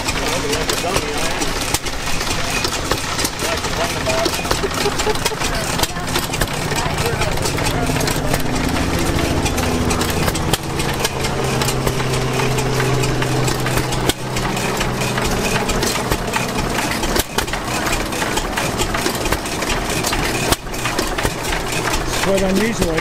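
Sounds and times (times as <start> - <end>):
exhaust pops: 0.0 - 23.0
gas engines running: 0.0 - 23.0
low steady drone: 0.0 - 23.0
mechanical clatter: 0.0 - 23.0.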